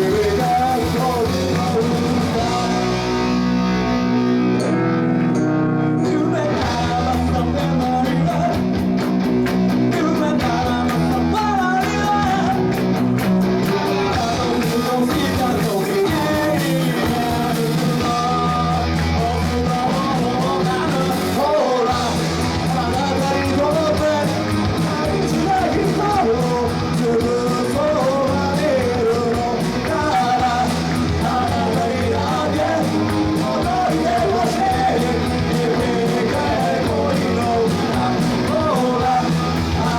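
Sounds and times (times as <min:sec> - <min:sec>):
person singing: 0:00.0 - 0:03.4, 0:04.6 - 0:08.8, 0:09.8 - 0:12.8, 0:13.6 - 0:39.9
rock band playing live: 0:00.0 - 0:39.9.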